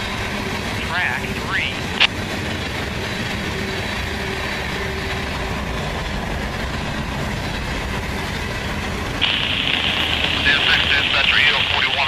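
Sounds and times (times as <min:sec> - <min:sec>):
steel train wheels on rails: 0:00.0 - 0:12.0.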